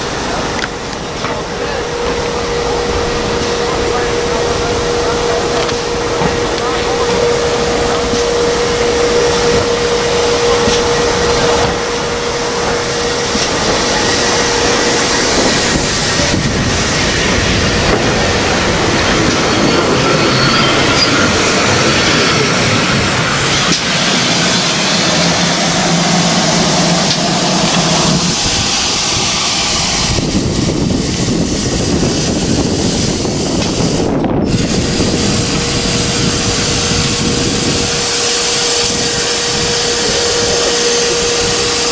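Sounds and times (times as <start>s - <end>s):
steady tone: 0.0s - 41.9s
steam locomotive hissing: 0.0s - 41.9s.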